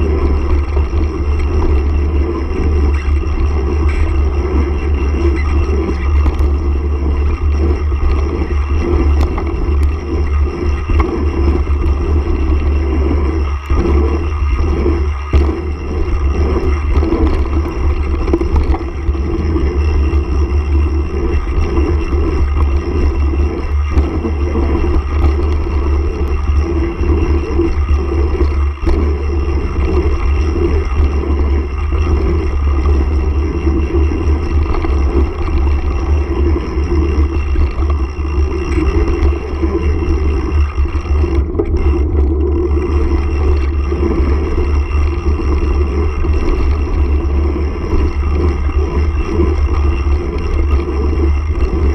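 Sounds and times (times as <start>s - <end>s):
wind rumble on microphone: 0.0s - 51.9s.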